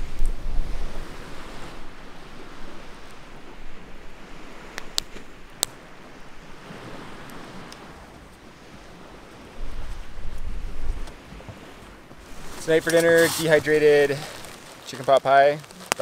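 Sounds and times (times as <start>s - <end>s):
wind rumbling on microphone: 0.0s - 14.8s
small waves washing on shore: 0.0s - 16.0s.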